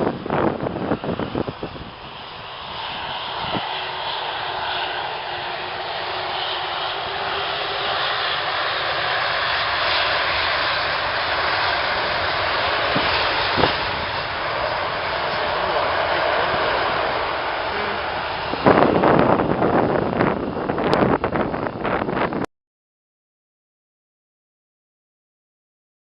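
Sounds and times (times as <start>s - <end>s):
airliner engines approaching: 0.0s - 22.5s
wind buffeting microphone: 0.0s - 22.5s.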